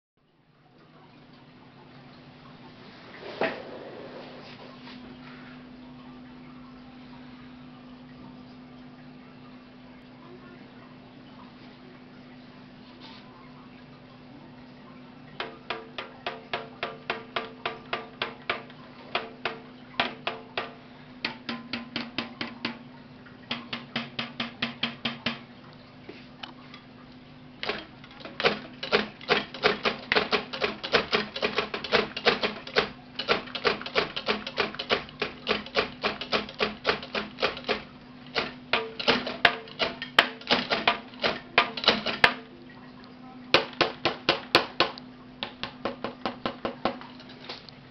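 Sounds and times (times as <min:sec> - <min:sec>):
faint steady hum: 0:00.2 - 0:47.9.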